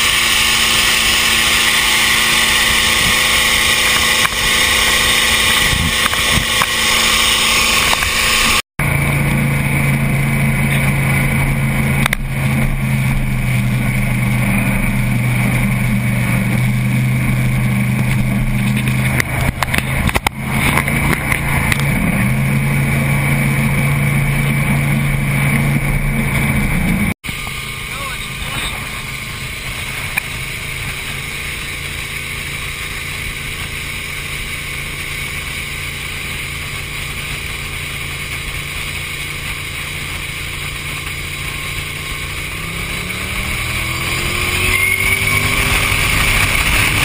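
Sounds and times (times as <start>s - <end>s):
speedboat engine whine: 0.0s - 47.0s.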